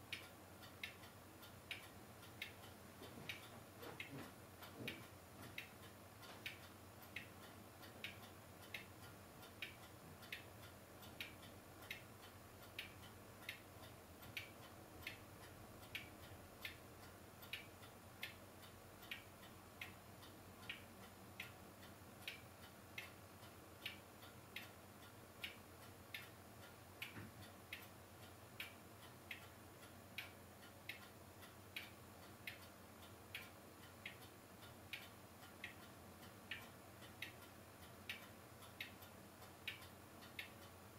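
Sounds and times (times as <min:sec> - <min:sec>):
faint even ticking: 0:00.0 - 0:40.9
low hiss: 0:00.0 - 0:40.9.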